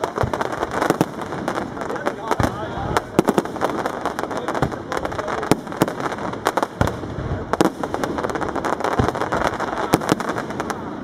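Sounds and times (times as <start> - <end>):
crackle of firework stars: 0.0 - 11.0.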